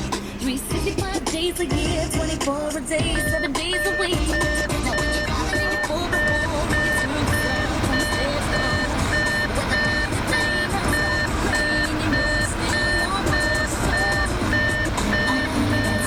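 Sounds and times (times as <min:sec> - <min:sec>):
reversing warning beeper: 0:03.0 - 0:16.0.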